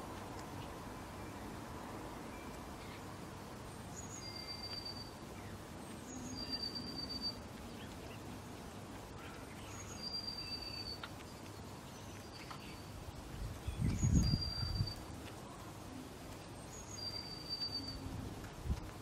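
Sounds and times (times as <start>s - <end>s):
faint background noise: 0.0s - 19.0s.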